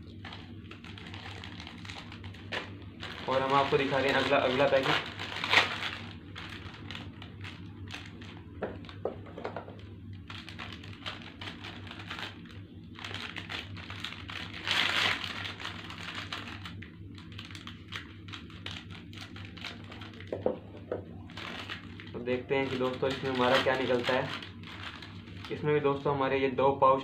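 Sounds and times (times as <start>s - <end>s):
plastic wrapper crinkling: 0.0s - 9.1s, 9.7s - 20.5s, 21.2s - 26.1s.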